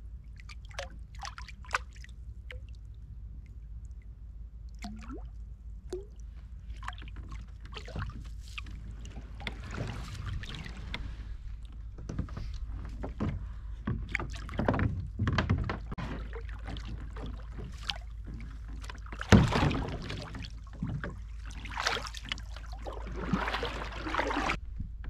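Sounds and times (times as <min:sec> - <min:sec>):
paddle splashing in water: 0:00.4 - 0:02.8, 0:04.8 - 0:05.3, 0:05.9 - 0:24.6.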